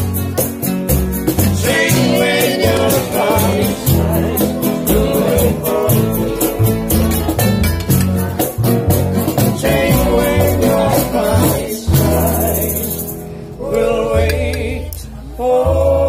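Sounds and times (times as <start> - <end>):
strummed acoustic guitar: 0.0 - 14.7
plucked double bass: 0.0 - 16.0.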